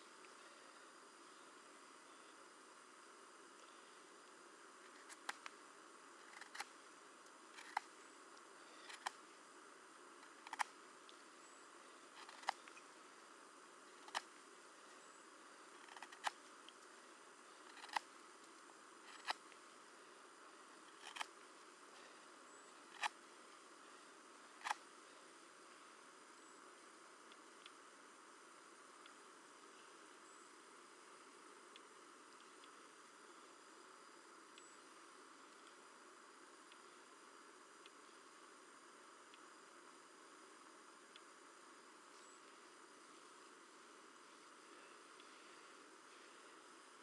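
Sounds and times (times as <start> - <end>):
faint steady hiss: 0.0 - 47.0.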